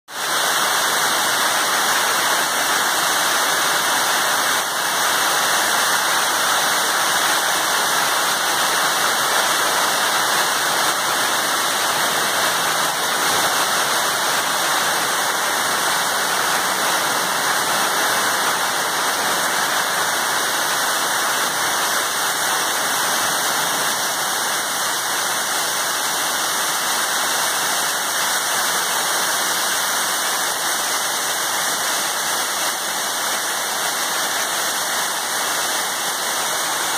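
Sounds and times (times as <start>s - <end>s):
hail and heavy rain: 0.1s - 36.9s.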